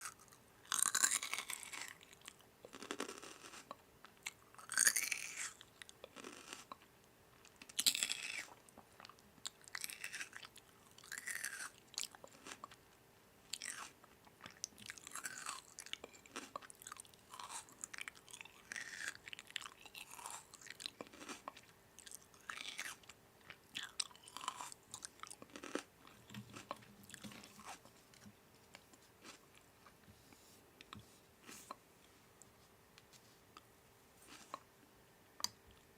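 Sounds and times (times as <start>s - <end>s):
person crunching and chewing food: 0.0s - 12.8s, 13.5s - 31.8s, 33.6s - 34.7s.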